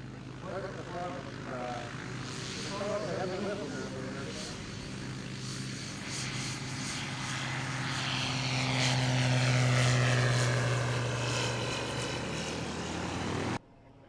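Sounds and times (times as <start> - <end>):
light aircraft engine drone: 0.0 - 14.0.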